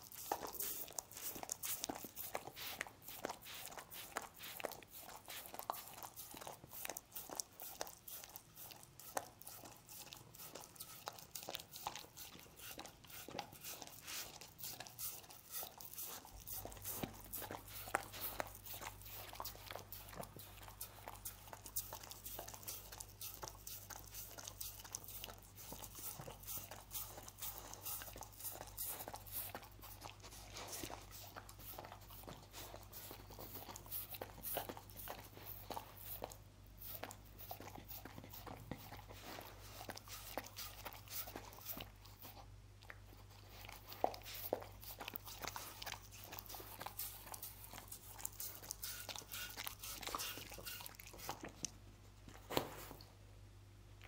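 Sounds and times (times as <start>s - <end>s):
dog licking and smacking: 0.0s - 53.2s.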